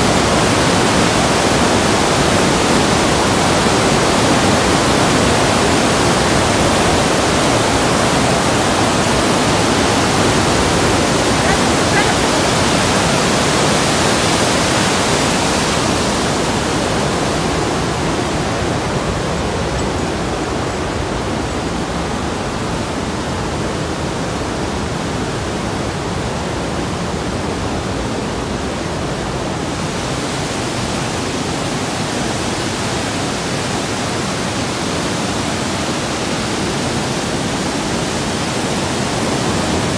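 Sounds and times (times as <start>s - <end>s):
waterfall rushing over boulders: 0.0s - 39.9s.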